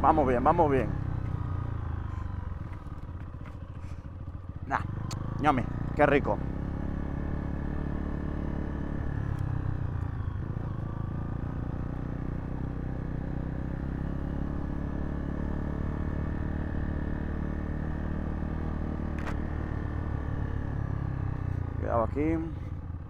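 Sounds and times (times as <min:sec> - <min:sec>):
motorcycle engine low rumble: 0:00.0 - 0:23.0.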